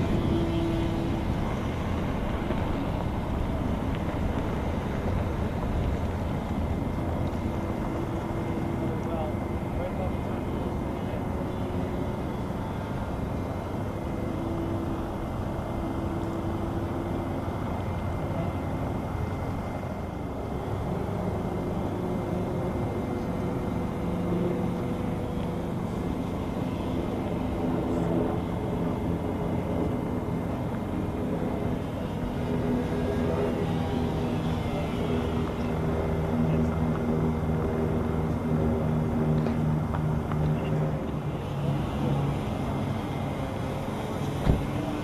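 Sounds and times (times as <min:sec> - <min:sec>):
constant rushing noise: 0:00.0 - 0:45.0
model airplane motor humming: 0:00.0 - 0:45.0.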